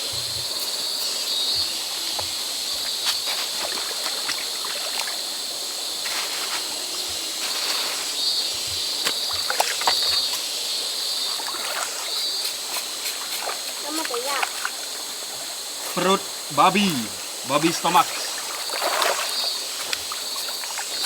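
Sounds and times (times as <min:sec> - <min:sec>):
river water running and splashing: 0:00.0 - 0:21.0.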